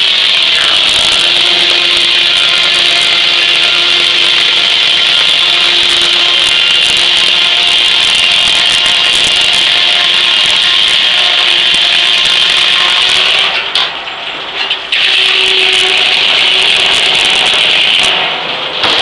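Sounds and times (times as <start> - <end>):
circular saw cutting log: 0.0 - 14.0, 14.6 - 19.0.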